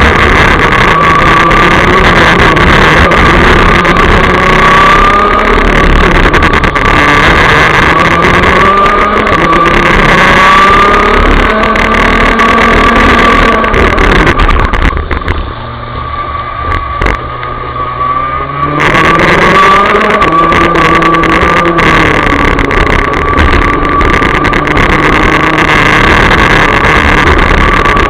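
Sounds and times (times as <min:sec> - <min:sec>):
kart engine at racing speed: 0:00.0 - 0:28.0.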